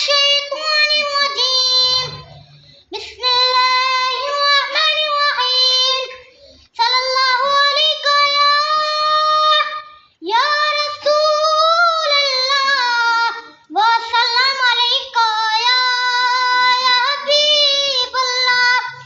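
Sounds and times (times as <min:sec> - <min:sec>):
child reciting in melodic chant: 0:00.0 - 0:19.0.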